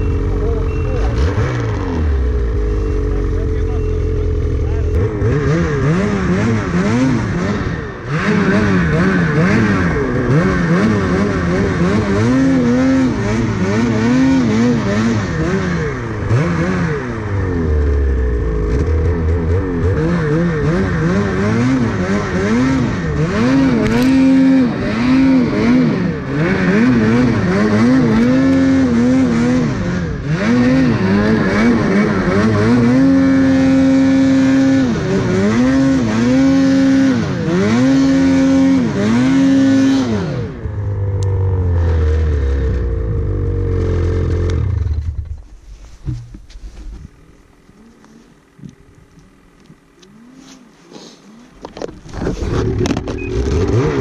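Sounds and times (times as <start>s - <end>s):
snowmobile engine revving: 0.0s - 46.2s, 47.1s - 54.0s.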